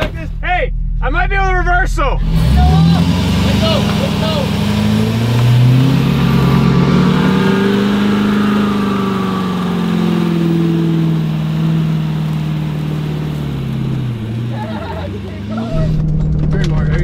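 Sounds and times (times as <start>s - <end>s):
pickup truck engine revving hard: 2.2s - 16.0s
tires spinning in mud: 2.2s - 17.0s.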